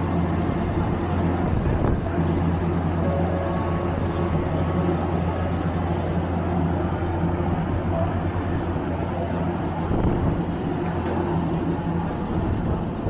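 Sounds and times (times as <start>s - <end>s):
low engine hum: 0.0s - 13.0s
road traffic noise: 0.0s - 13.0s.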